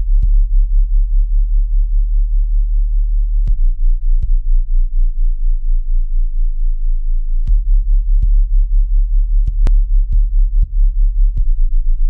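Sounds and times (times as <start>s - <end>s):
deep pulsing bass tone: 0.0s - 12.0s.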